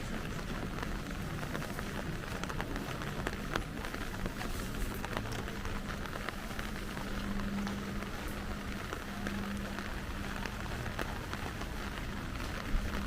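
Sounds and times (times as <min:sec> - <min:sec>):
low steady hum: 0:00.0 - 0:13.0
rain drops ticking: 0:00.0 - 0:13.0.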